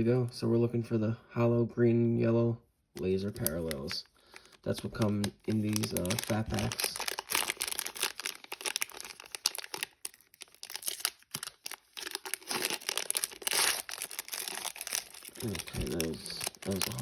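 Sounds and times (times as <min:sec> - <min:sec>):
cellophane wrapper crinkling: 0:03.2 - 0:17.0.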